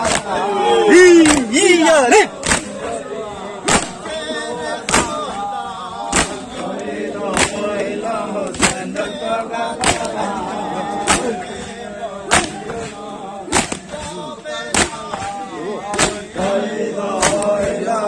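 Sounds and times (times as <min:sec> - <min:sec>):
chest beating in unison: 0:00.0 - 0:18.0
men chanting in unison: 0:00.0 - 0:18.0.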